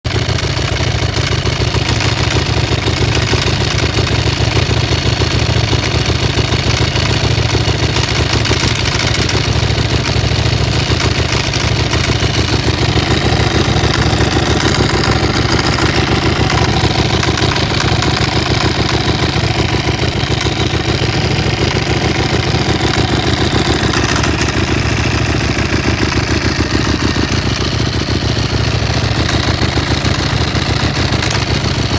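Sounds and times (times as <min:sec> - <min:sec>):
engine rattle: 0:00.0 - 0:31.9
motorcycle engine idling: 0:00.0 - 0:31.9.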